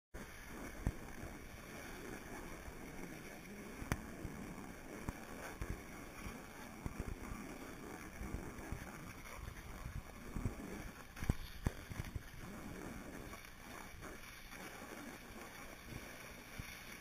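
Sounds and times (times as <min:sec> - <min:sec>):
skis scraping on hard snow: 0:00.2 - 0:17.0.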